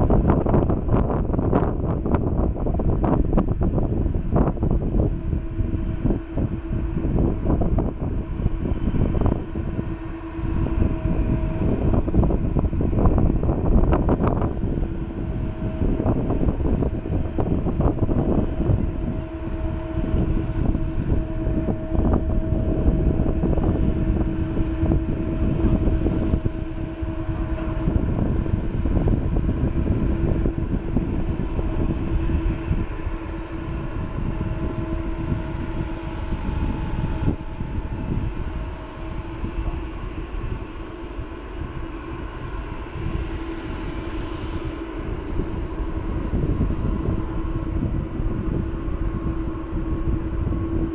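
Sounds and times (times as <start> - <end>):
jet engine whine: 0.0 - 50.9
jet engines idling rumble: 0.0 - 50.9.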